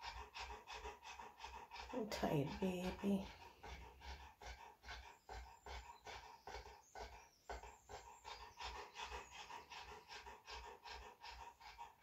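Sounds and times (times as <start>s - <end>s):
dog panting rapidly: 0.0s - 12.0s.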